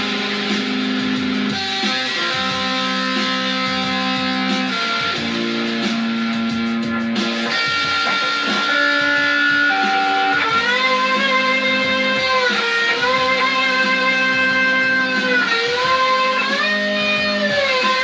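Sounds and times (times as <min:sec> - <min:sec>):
guitar playing held notes: 0:00.0 - 0:18.0.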